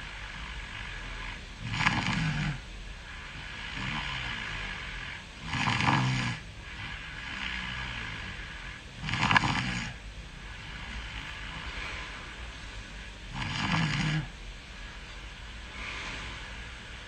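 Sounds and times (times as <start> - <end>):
quiet breaths: 0.0 - 17.0.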